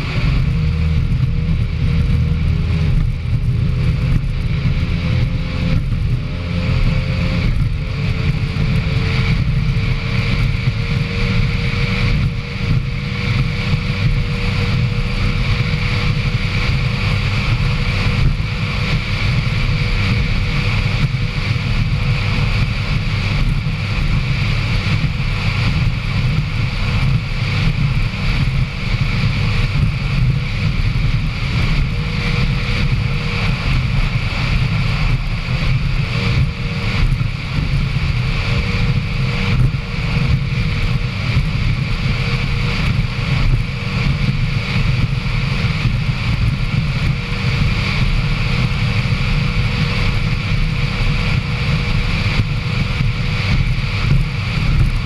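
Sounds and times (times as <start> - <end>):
powerboat engines at high speed: 0.0 - 55.0.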